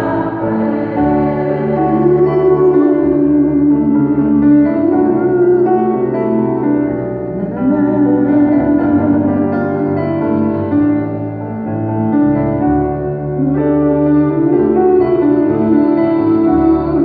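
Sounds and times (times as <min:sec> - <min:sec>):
electric keyboard chords: 0:00.0 - 0:17.0.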